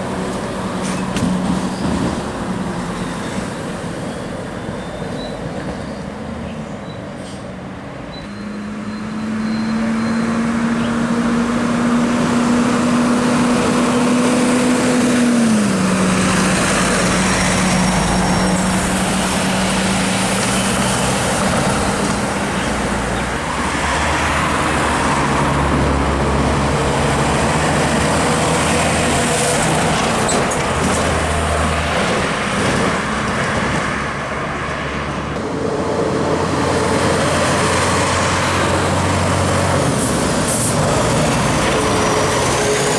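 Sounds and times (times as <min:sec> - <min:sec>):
diesel trucks driving past: 0:00.0 - 0:42.9
road noise: 0:00.0 - 0:42.9.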